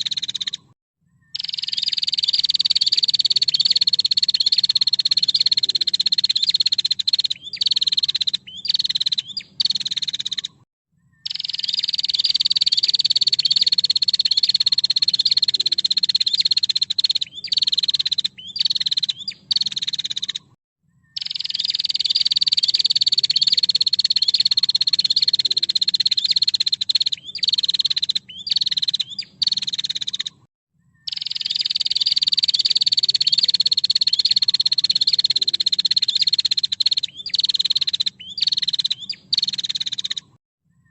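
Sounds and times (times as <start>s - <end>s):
bird rattling trill call: 0.0s - 0.7s, 1.4s - 10.6s, 11.2s - 20.5s, 21.2s - 30.4s, 31.1s - 40.4s.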